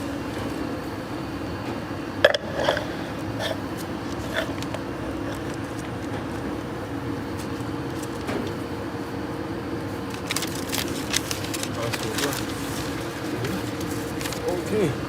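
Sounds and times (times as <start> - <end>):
factory machinery humming: 0.0 - 15.0.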